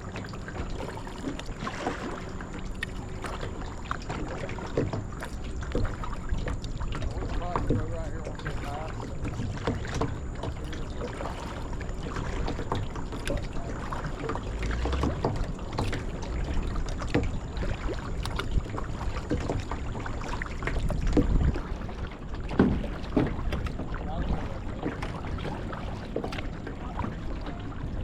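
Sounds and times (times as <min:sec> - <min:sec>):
water splashing from paddling: 0:00.0 - 0:28.0.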